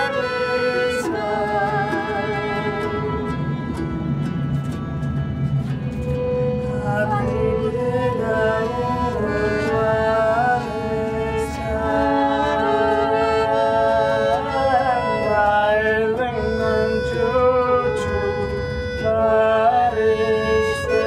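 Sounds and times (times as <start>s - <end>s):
man singing: 0.0s - 3.3s, 6.7s - 21.0s
accordion chords: 0.0s - 21.0s
plucked string instrument: 0.0s - 21.0s
violin: 0.0s - 21.0s.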